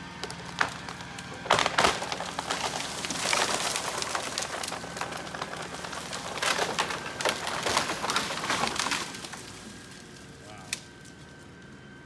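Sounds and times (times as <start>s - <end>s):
wood snapping and branches breaking: 0.0s - 11.0s.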